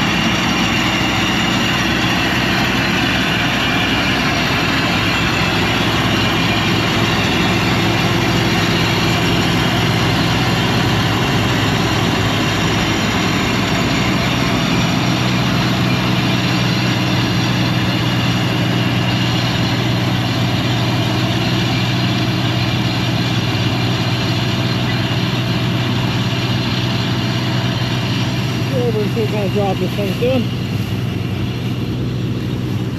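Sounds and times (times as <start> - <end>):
combine harvester engine hum: 0.0 - 32.9.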